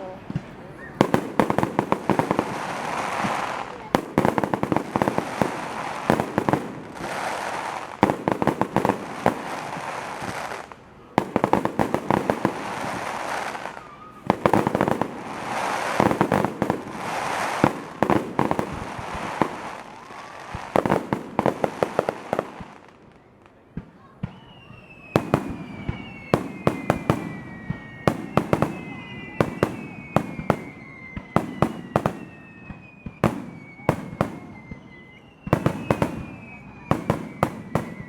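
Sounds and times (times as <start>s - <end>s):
fireworks bangs: 0.0s - 38.0s
fireworks crackling hiss: 0.0s - 38.0s.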